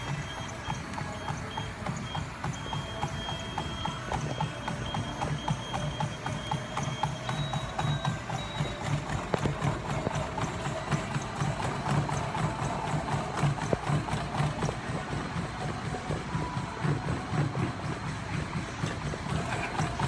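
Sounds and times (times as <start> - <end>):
footfalls pounding treadmill: 0.0 - 20.0
treadmill motor hum: 0.0 - 20.0.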